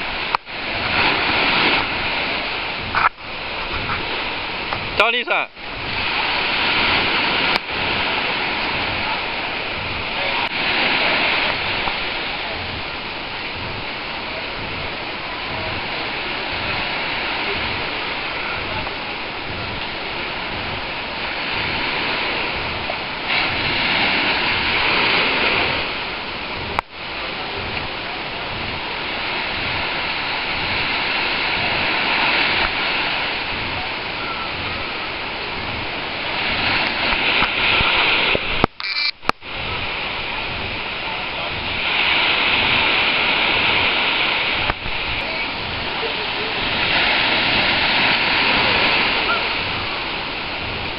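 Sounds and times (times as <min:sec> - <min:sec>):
waves washing onto sand: 0:00.0 - 0:50.9.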